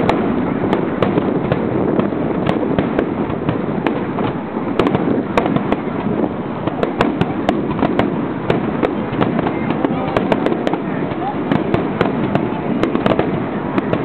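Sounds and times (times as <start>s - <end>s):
fireworks crackling: 0.0s - 14.0s
sharp firework cracks: 0.0s - 14.0s.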